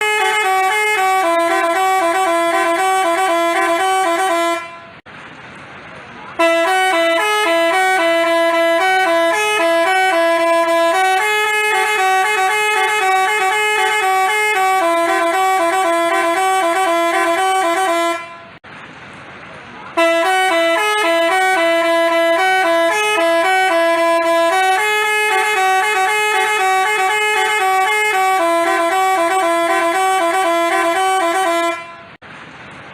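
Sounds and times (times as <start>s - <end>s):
bus horn playing melody: 0.0s - 5.0s, 6.3s - 18.6s, 19.9s - 32.2s.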